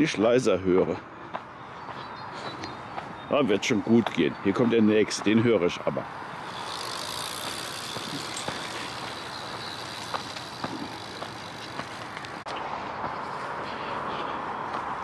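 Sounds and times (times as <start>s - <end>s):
bicycle tyres rolling: 1.4s - 15.0s.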